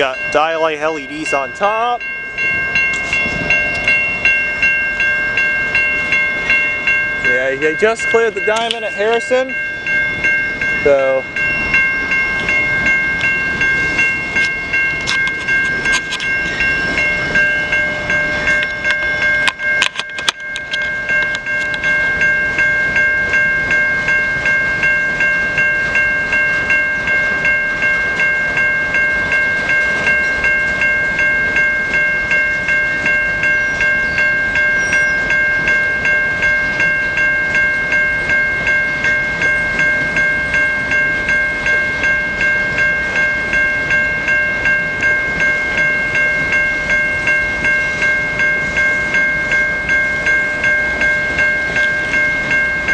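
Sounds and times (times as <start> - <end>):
crossing bell ringing: 0.0 - 52.9
freight train rumble: 0.0 - 52.9.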